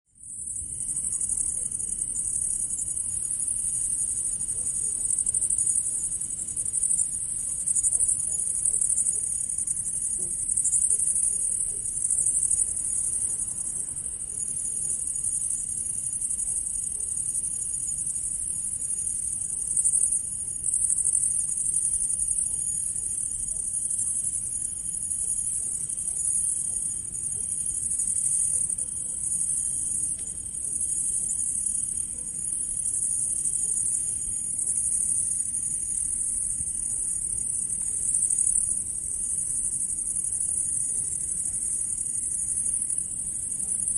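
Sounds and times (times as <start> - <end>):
grasshopper chirping: 0.2 - 43.9.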